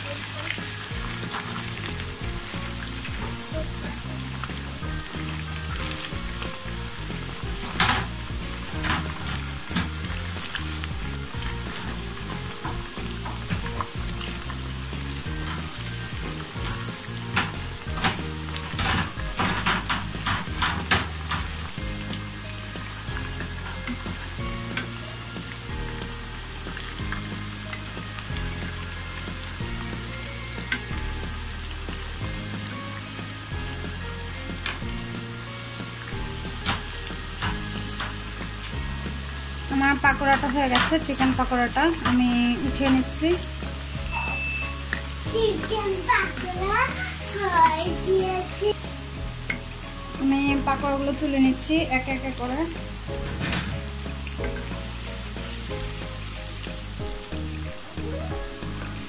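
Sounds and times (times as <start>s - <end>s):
food deep-frying in oil: 0.0s - 59.0s
skimmer scraping wok: 0.0s - 59.0s.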